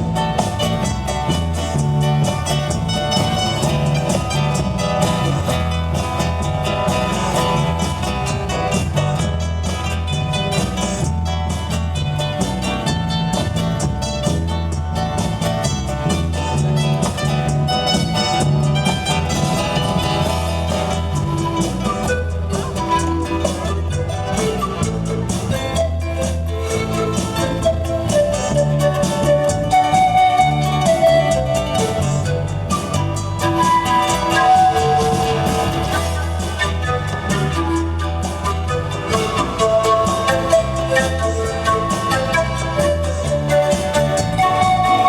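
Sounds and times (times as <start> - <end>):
bass line: 0.0 - 45.0
drum kit beat: 0.0 - 45.0
guitar: 0.0 - 45.0.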